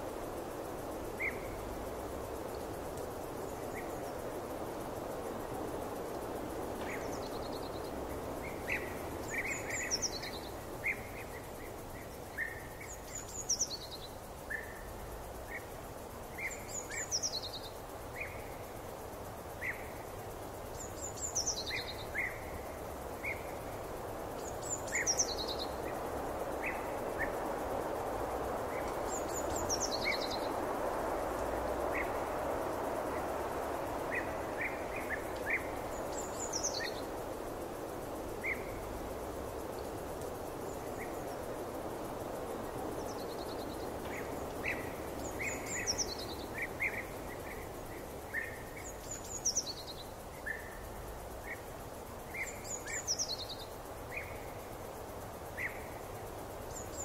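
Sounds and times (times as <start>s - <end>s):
soft background hiss: 0.0s - 57.0s.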